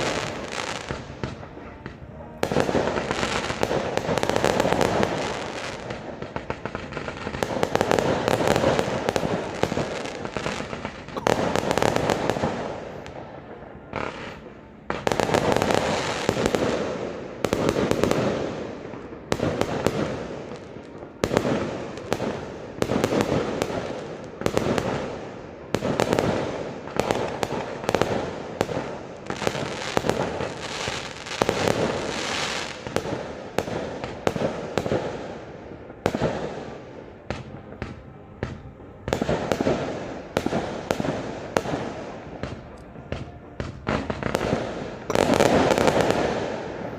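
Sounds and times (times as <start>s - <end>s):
fireworks bangs: 0.0s - 46.9s
fireworks crackling: 0.0s - 46.9s.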